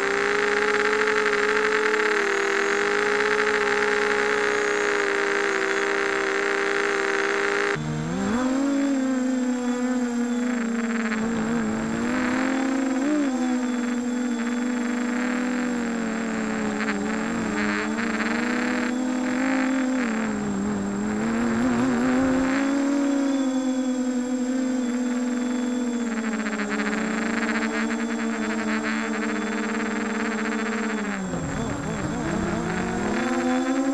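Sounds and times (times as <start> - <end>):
quadcopter motors buzzing whine: 0.0 - 33.9.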